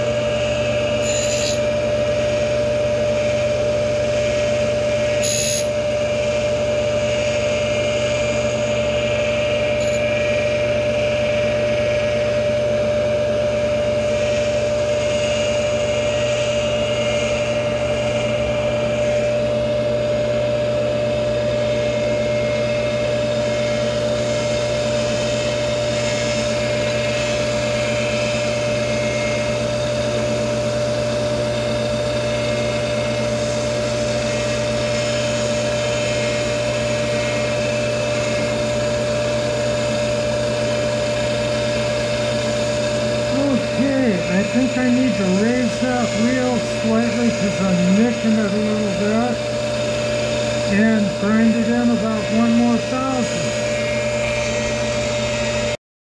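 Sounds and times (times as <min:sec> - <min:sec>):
grinder whining: 0:00.0 - 0:55.8.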